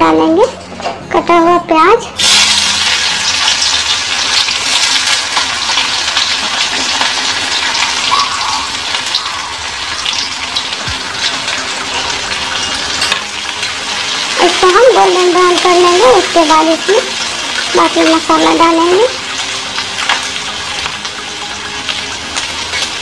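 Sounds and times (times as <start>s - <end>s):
onion sizzling in hot oil: 2.2s - 23.0s.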